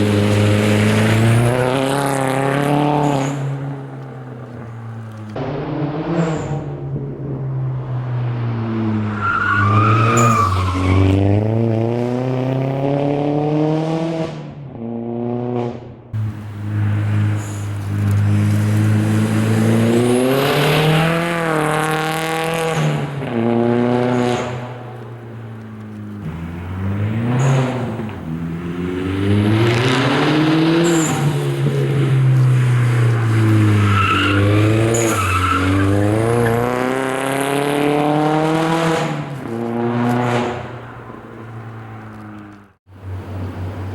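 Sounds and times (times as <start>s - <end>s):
car engine revving: 0.0s - 43.3s.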